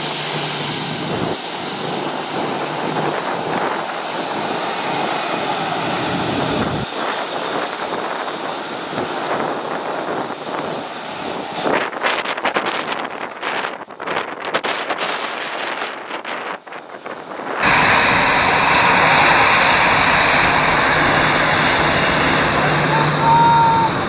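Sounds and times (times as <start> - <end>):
jet blast buffeting microphone: 0.0 - 13.4, 17.3 - 24.0
jet engines with fan whine: 0.0 - 24.0.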